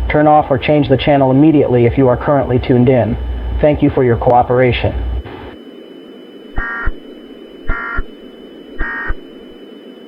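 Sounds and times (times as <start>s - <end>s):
buzzy digital data bursts: 0.0s - 10.0s
faint high steady tone: 0.0s - 10.0s
steady hiss and hum: 0.0s - 10.0s.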